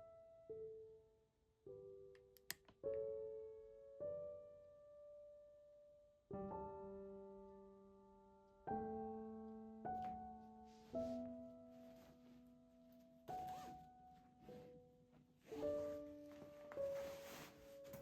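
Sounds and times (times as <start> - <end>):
slow soft piano chords: 0.0 - 18.0.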